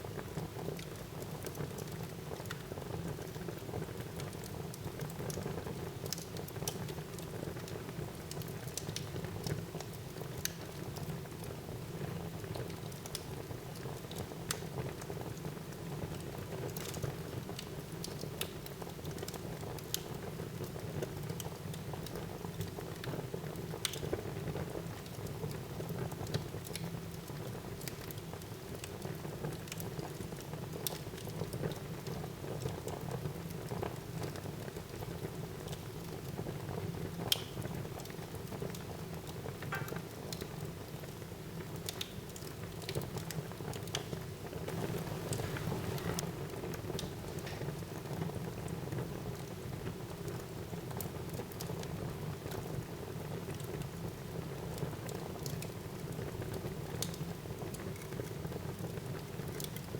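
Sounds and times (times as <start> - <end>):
fire burning in fireplace: 0.0 - 59.9
fire crackles and pops: 0.0 - 59.9.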